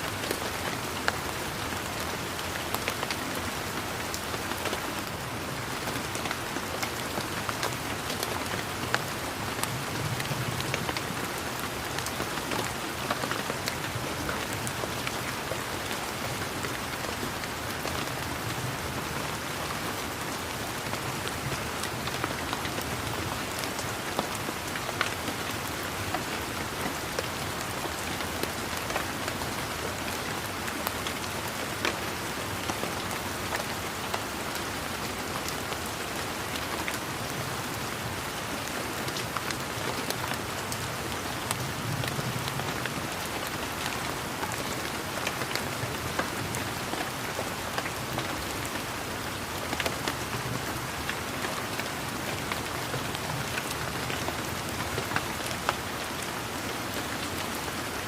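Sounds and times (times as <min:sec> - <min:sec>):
rainfall hiss: 0:00.0 - 0:58.0.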